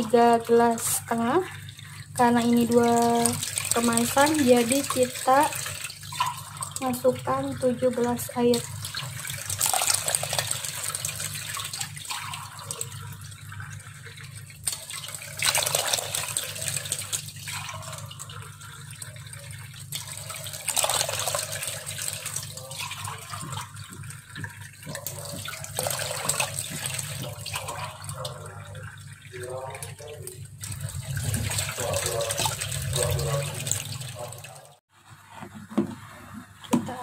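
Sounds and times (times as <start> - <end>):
low steady hum: 0.0 - 34.8
water pouring into pan: 0.0 - 34.8.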